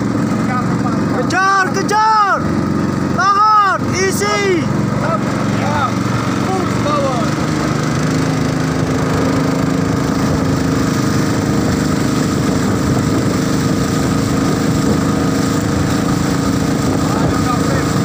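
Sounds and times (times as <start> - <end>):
small boat engine running: 0.0 - 18.0.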